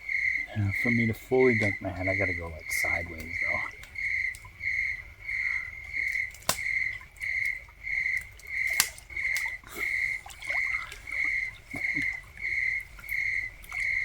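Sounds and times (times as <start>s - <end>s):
crickets chirping: 0.0s - 14.0s
water sloshing in a hot tub: 0.0s - 14.0s.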